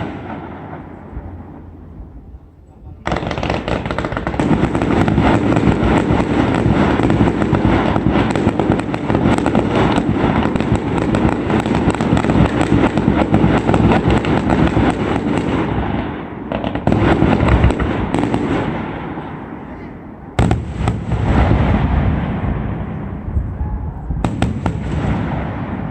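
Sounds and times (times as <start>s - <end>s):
fireworks bangs and crackles: 0.0s - 1.7s, 2.9s - 25.9s.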